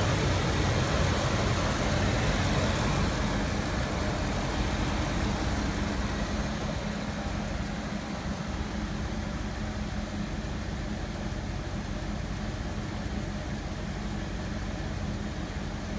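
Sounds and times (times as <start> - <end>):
truck engine idling: 0.0 - 15.9.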